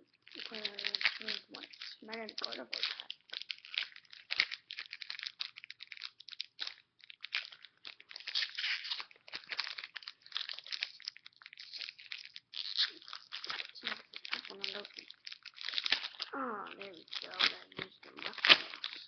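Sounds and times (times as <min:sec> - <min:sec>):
foil wrapper crinkling and tearing: 0:00.1 - 0:19.0.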